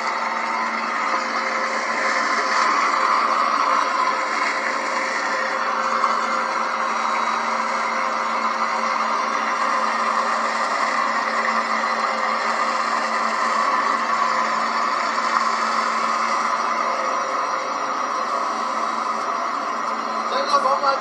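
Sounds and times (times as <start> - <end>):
motor whirring: 0.0 - 21.0.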